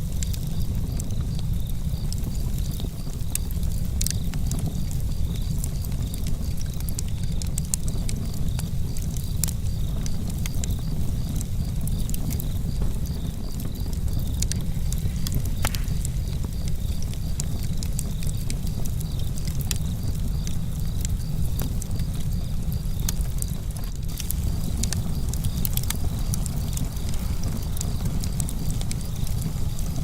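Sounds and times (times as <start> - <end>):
burning wood crackling and popping: 0.0 - 30.0
campfire low rumble: 0.0 - 30.0.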